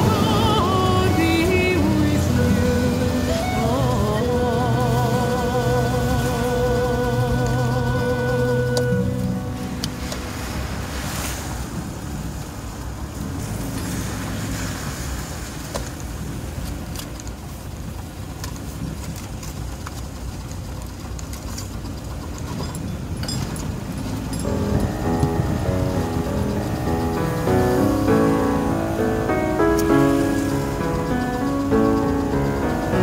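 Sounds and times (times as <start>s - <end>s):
tyres hissing on wet road: 0.0s - 21.9s, 23.8s - 33.0s
vehicle engine and road noise: 0.0s - 33.0s.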